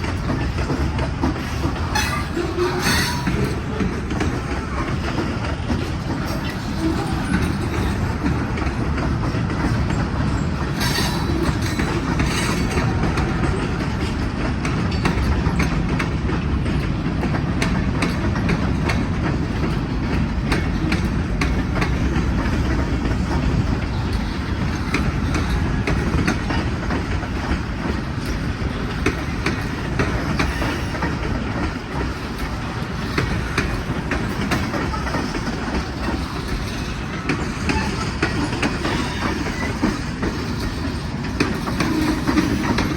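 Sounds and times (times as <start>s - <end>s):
freight train wheels rumbling: 0.0s - 42.9s
wheels clacking over rail joints: 0.0s - 42.9s.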